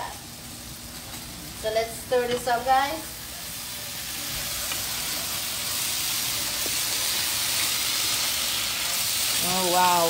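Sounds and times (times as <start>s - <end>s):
food sizzling in frying pan: 0.0s - 10.0s.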